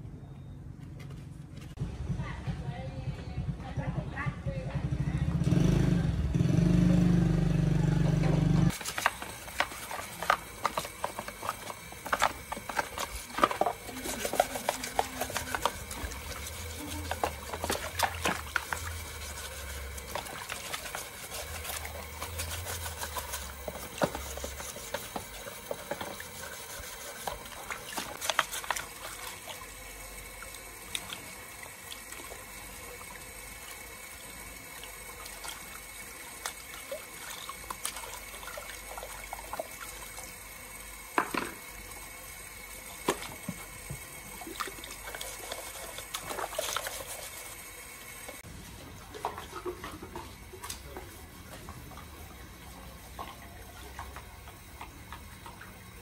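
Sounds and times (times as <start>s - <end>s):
water trickling: 8.7s - 56.0s.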